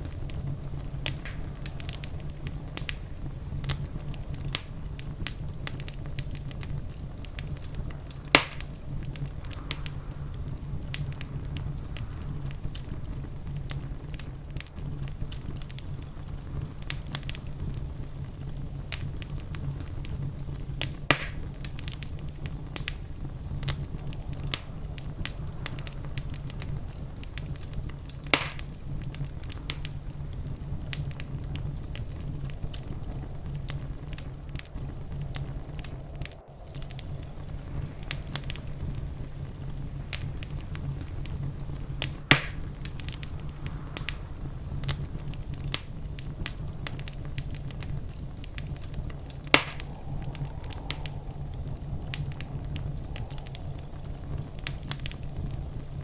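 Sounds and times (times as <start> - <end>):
low rumble of burning: 0.0 - 56.0
sharp fire pops: 0.0 - 56.0
wood fire crackling: 0.0 - 56.0.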